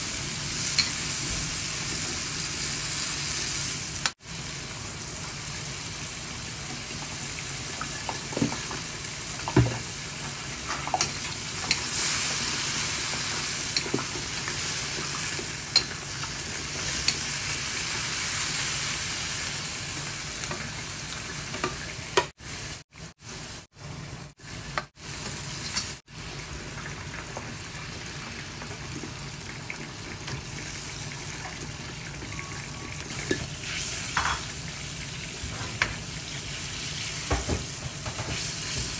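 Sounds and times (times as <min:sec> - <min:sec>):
vegetables sizzling in a wok: 0:00.0 - 0:38.9.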